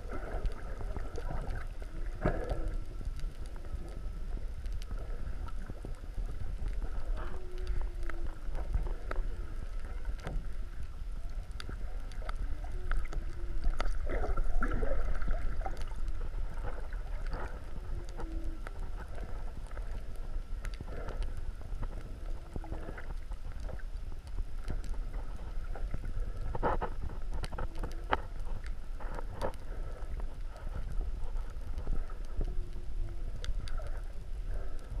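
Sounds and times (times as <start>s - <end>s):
clicks and crackle: 0.0s - 35.0s
low underwater rumble: 0.0s - 35.0s.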